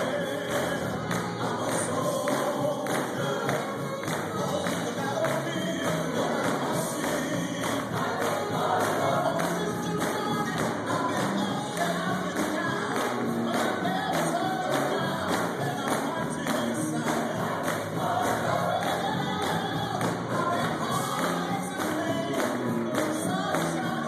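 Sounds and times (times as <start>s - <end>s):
group of voices singing: 0.0s - 24.0s
percussive beat: 0.0s - 24.0s.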